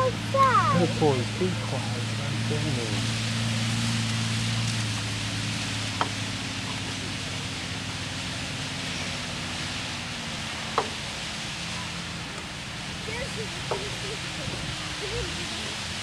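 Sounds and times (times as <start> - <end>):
constant hiss: 0.0 - 16.0
fire engine motor hum: 0.0 - 16.0.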